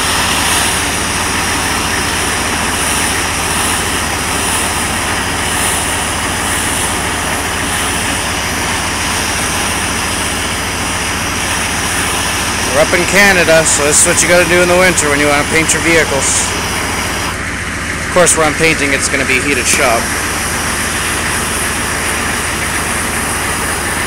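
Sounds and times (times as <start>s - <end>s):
diesel engine idling: 0.0s - 24.0s
gas torch hissing roar: 0.0s - 24.0s.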